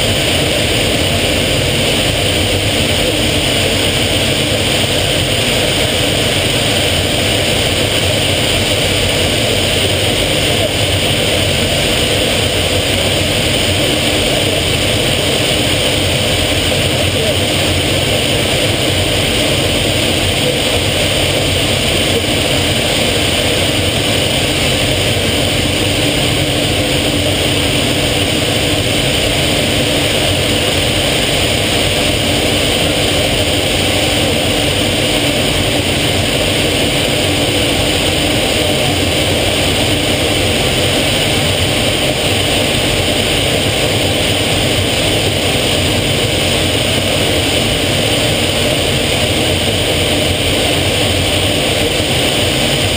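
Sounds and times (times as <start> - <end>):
aircraft engine in cockpit: 0.0 - 52.9
rushing air: 0.0 - 52.9.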